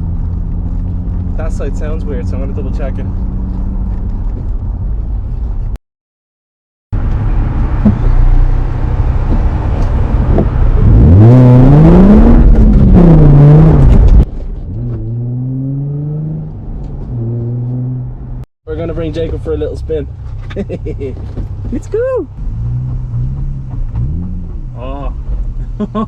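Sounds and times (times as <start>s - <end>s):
car engine revving: 0.0s - 4.4s, 7.0s - 21.8s, 22.4s - 26.0s.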